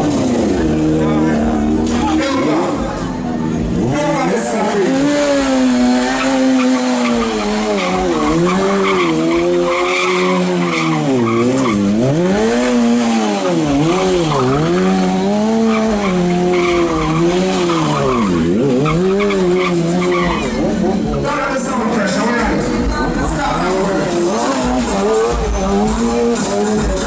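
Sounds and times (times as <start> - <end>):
motorcycle engine revving: 0.0 - 27.0
tyre squealing on asphalt: 0.0 - 27.0.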